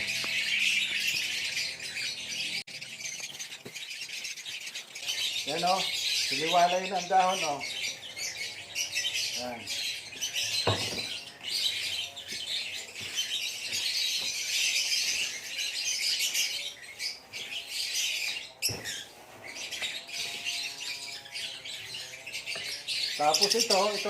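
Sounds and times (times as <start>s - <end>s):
lovebirds chirping and chattering: 0.0s - 24.0s.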